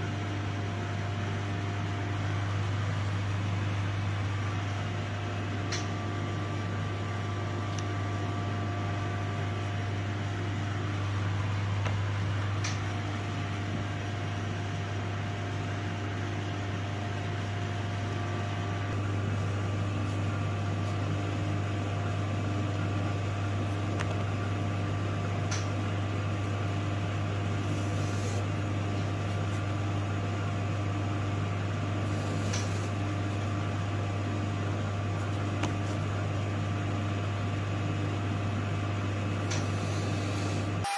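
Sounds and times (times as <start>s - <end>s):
machine hum: 0.0s - 40.9s.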